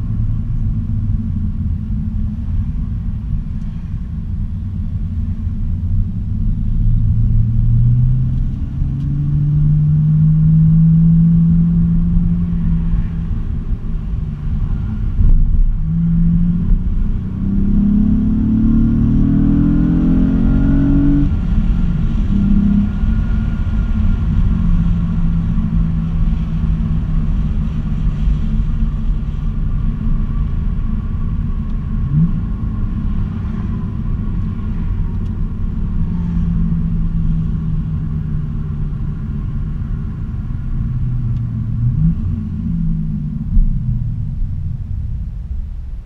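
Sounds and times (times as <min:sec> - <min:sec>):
car exhaust drone: 0:00.0 - 0:46.0
road rumble: 0:00.0 - 0:46.0.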